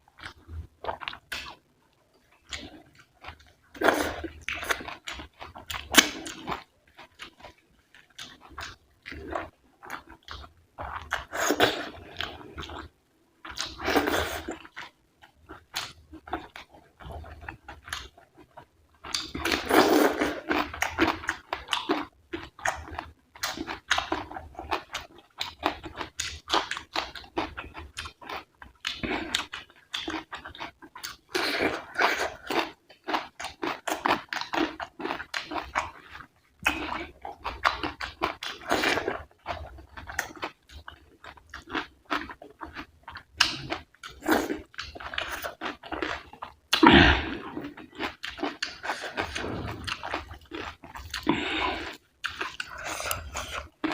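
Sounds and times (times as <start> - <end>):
close-miked chewing and smacking: 0.0 - 53.9.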